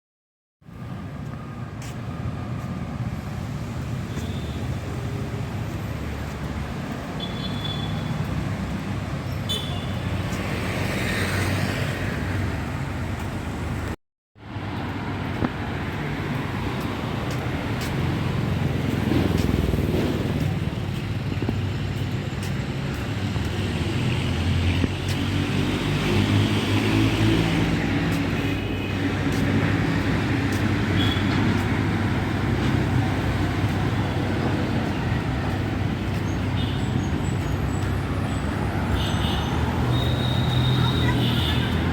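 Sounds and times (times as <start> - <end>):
road traffic noise: 0.6 - 41.9.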